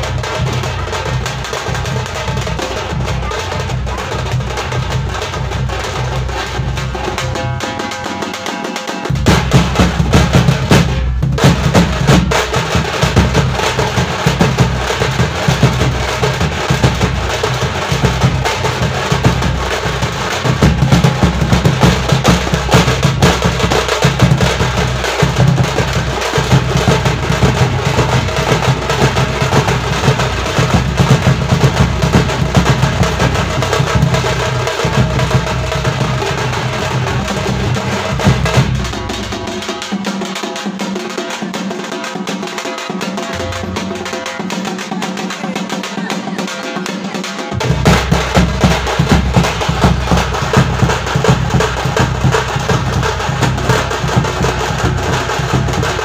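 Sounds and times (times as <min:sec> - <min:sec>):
bass drum: 0:00.0 - 0:08.3, 0:09.1 - 0:40.4, 0:43.2 - 0:44.8, 0:47.5 - 0:56.0
frame drums beaten with sticks: 0:00.0 - 0:56.0
side drum: 0:00.0 - 0:56.0.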